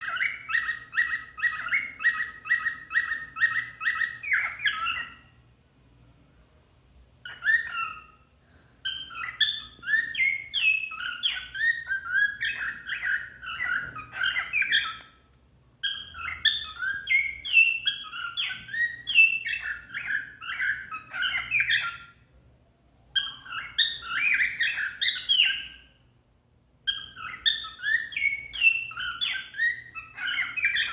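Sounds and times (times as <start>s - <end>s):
cockatiel chirping and warbling: 0.0s - 5.4s, 7.2s - 15.1s, 15.8s - 22.2s, 23.1s - 26.0s, 26.8s - 30.9s.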